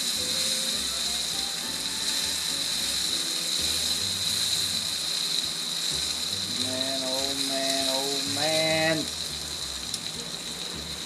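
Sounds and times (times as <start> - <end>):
faint background music: 0.0 - 11.0
steak sizzling on griddle: 0.0 - 11.0.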